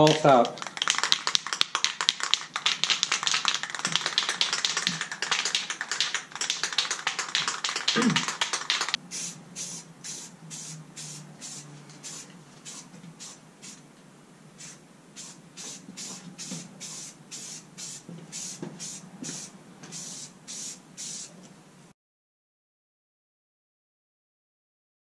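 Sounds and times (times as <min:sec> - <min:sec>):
spray-paint can spraying in bursts: 0:00.0 - 0:13.8, 0:14.6 - 0:21.4.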